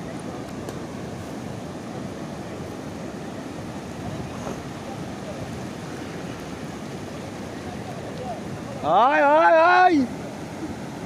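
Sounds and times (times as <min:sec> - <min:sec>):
surf washing up a beach: 0:00.0 - 0:11.0.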